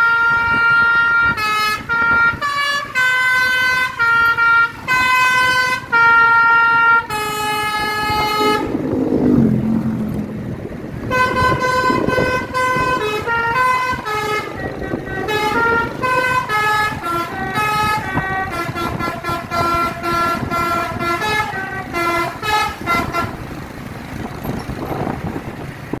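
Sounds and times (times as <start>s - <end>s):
musical air horn melody: 0.0s - 9.2s, 11.0s - 23.4s.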